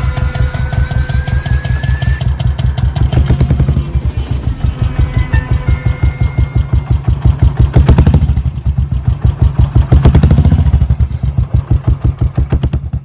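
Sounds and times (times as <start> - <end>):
motorcycle engine thumping: 0.0 - 13.0.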